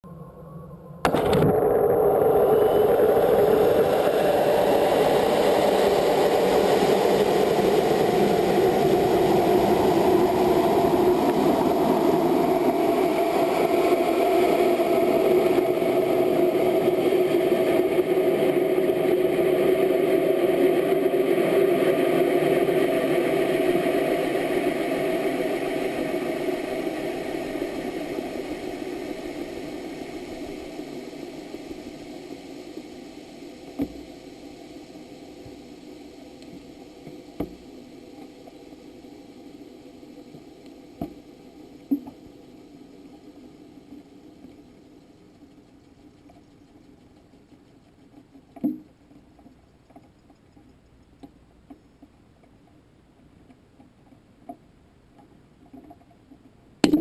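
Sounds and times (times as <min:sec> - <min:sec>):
engine drone: 0:00.0 - 0:48.6.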